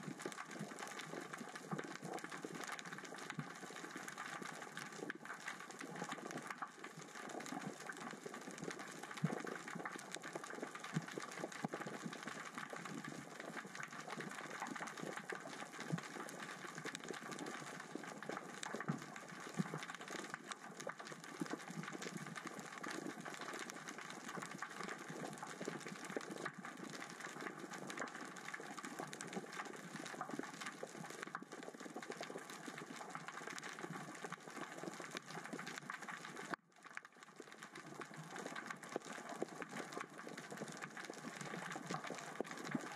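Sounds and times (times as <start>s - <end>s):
underwater rocks crackling and clicking: 0.0s - 42.9s.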